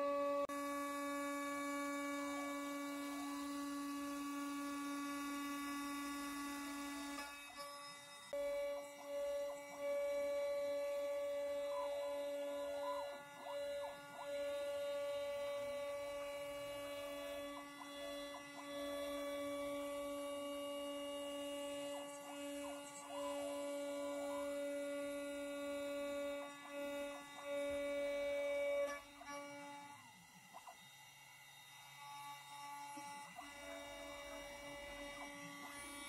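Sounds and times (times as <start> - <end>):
router bit milling wood: 0.0 - 36.0
router spindle whining: 0.0 - 36.0.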